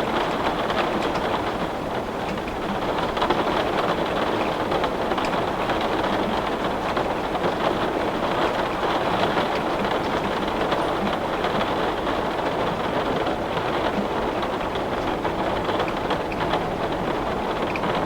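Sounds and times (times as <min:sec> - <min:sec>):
heavy rain on window glass: 0:00.0 - 0:18.0.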